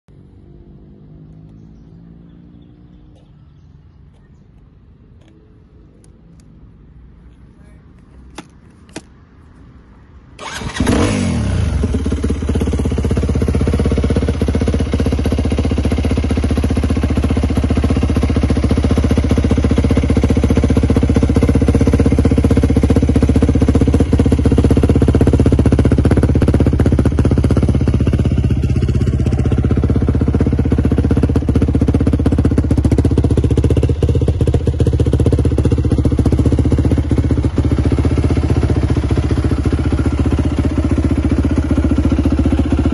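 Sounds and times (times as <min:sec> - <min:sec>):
motorcycle engine starting and idling: 0:00.2 - 0:06.9, 0:10.3 - 0:42.9.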